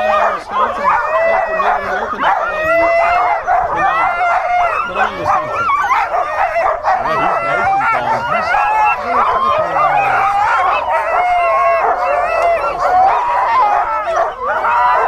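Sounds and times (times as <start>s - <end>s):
sled dogs yelping and howling: 0.0s - 15.0s.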